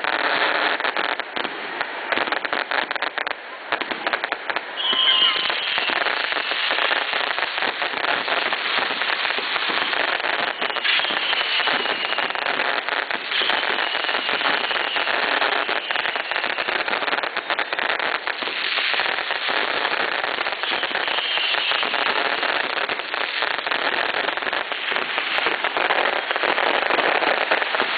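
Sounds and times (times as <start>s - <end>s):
bonfire crackling: 0.0s - 27.9s.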